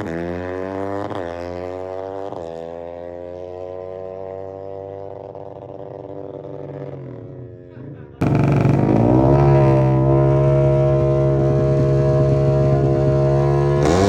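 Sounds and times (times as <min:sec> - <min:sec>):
droning engine exhaust: 0:01.0 - 0:14.0.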